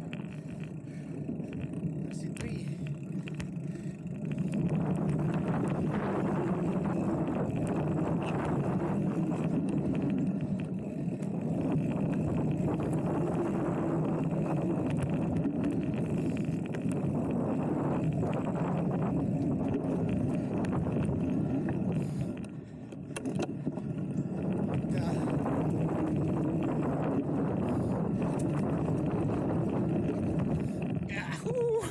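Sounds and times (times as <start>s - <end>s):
bike tyres rumbling on dirt: 0.0s - 31.9s.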